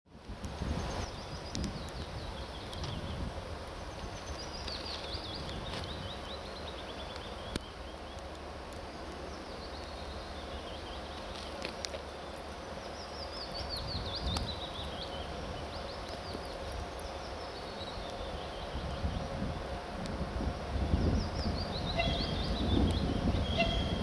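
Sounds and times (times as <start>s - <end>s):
songbird singing: 0.5s - 20.0s, 20.6s - 24.0s.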